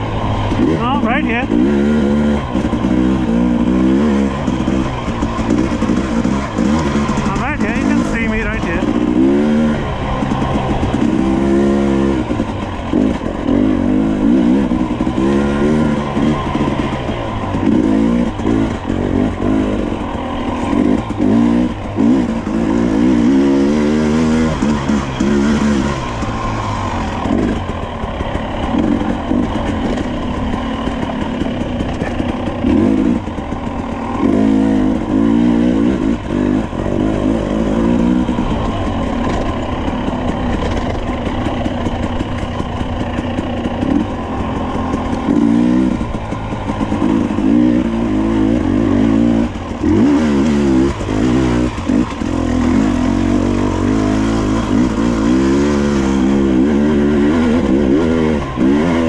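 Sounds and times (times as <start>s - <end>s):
two-stroke dirt bike engine revving: 0.0s - 59.0s.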